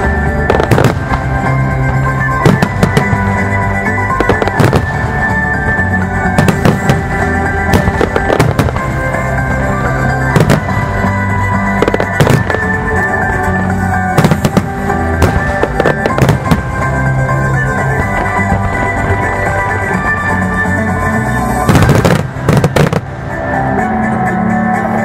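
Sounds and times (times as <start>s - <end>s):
fireworks bursting: 0.0s - 23.9s
background music: 0.0s - 25.0s.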